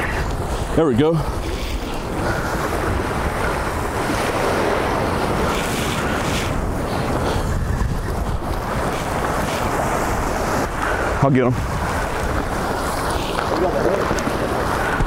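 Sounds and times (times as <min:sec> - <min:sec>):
waves washing against rocks: 0:00.0 - 0:15.0
wind buffeting microphone: 0:00.0 - 0:15.0.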